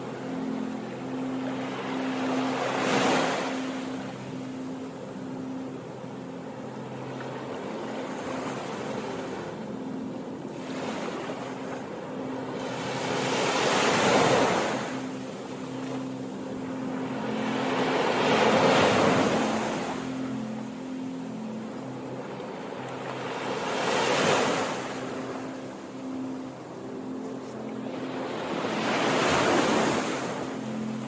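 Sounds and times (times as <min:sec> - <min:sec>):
surf hiss: 0:00.0 - 0:31.0
waves breaking on shore: 0:00.0 - 0:31.0.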